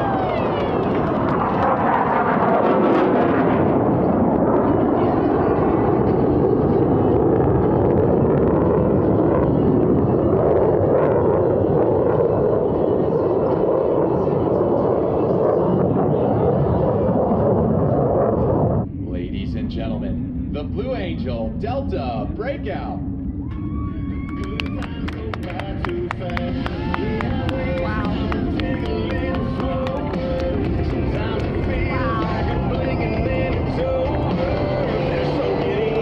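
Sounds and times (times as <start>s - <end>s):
jet roar overhead: 0.0s - 36.0s.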